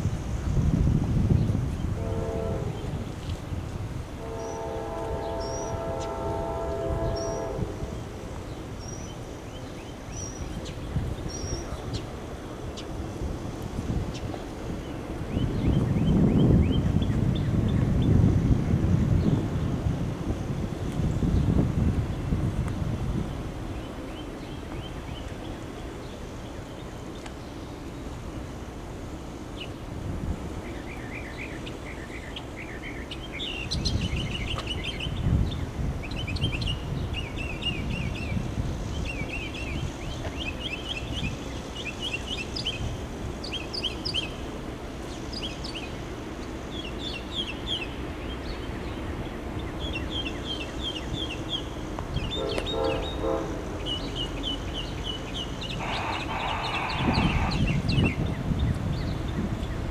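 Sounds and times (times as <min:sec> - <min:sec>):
wind rumble on microphone: 0:00.0 - 0:27.5, 0:29.6 - 0:32.0, 0:32.6 - 0:59.9
songbirds chirping: 0:01.3 - 0:18.3, 0:19.2 - 0:59.9.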